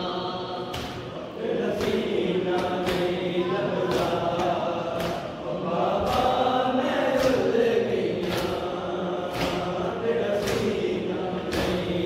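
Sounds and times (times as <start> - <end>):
male voices chanting a lament: 0.0 - 12.0
chest-beating slaps: 0.6 - 7.6, 8.2 - 12.0.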